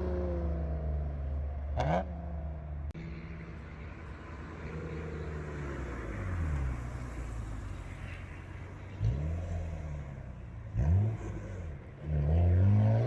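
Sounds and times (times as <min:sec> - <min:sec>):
car engine passing: 0:00.0 - 0:13.0.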